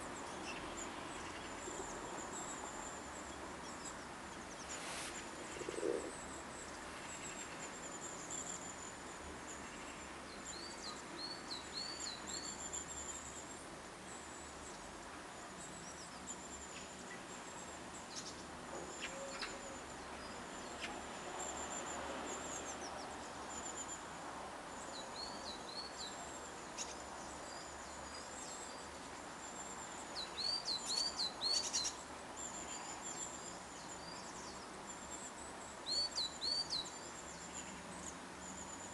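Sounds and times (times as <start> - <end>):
songbirds calling: 0.0 - 38.9.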